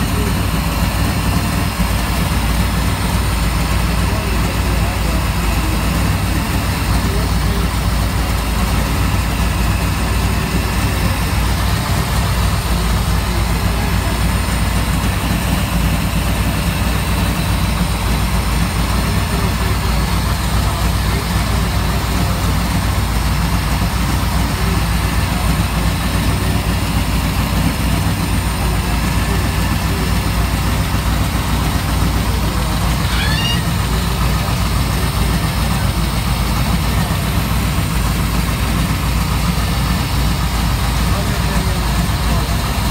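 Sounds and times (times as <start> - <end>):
supercharged engine idling: 0.0 - 42.9.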